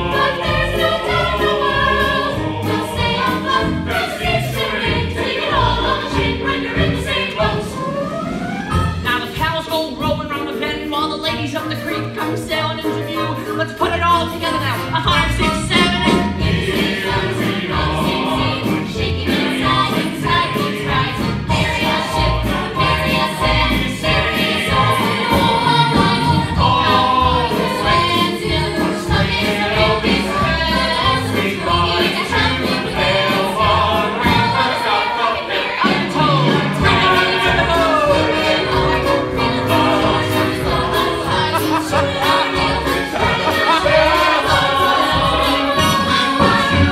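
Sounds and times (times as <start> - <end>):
chorus singing: 0.0 - 9.1, 15.2 - 46.9
instrumental accompaniment: 0.0 - 46.9.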